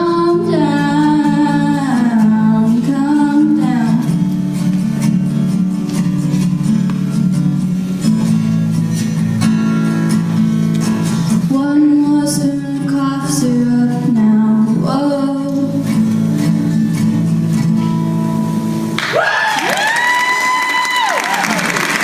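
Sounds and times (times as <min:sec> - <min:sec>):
acoustic guitar strumming: 0:00.0 - 0:19.1.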